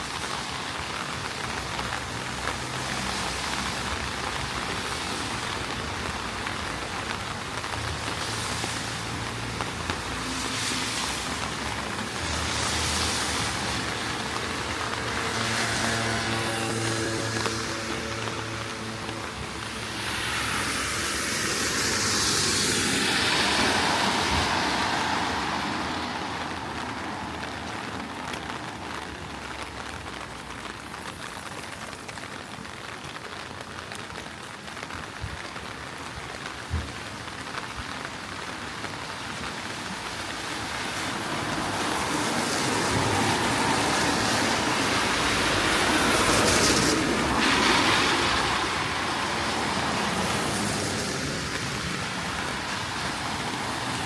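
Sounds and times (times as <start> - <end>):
tyre hiss of passing vehicles: 0.0 - 32.0, 36.7 - 54.0
heavy rain on wet pavement: 0.0 - 54.0.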